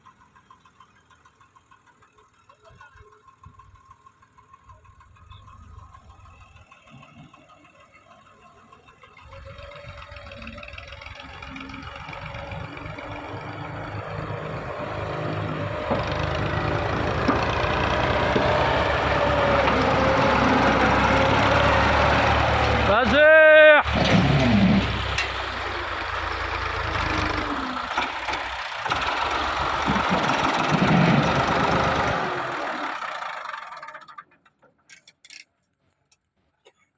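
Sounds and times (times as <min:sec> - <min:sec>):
tractor diesel engine running: 0:00.0 - 0:35.4.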